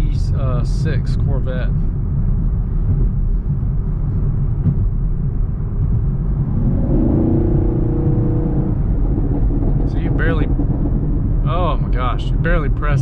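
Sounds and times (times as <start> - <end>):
car engine cruising: 0.0 - 13.0
road noise: 0.0 - 13.0.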